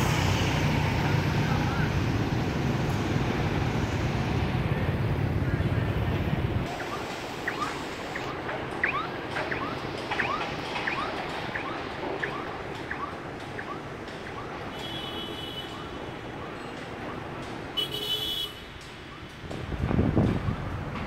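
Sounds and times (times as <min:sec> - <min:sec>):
city traffic: 0:00.0 - 0:21.0.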